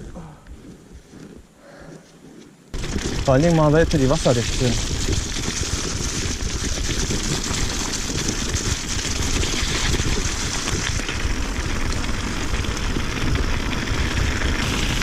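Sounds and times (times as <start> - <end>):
bike tyres rolling on trail: 0.0 - 15.0
bike rattling: 2.4 - 15.0.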